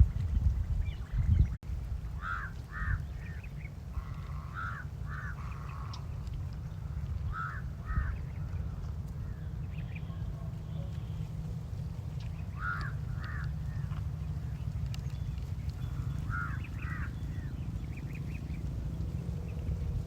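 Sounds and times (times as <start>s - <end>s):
steady low rumble: 0.0s - 20.0s
birds calling harshly: 0.5s - 20.0s.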